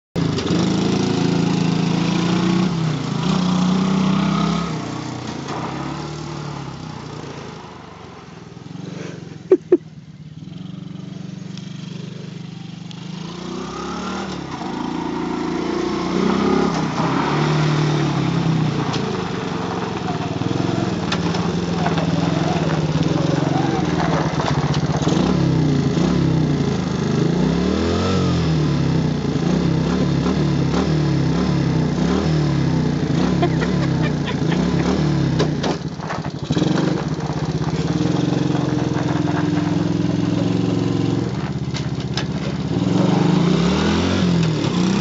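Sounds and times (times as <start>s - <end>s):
quad bike engine revving: 0.2s - 7.6s, 8.5s - 45.0s.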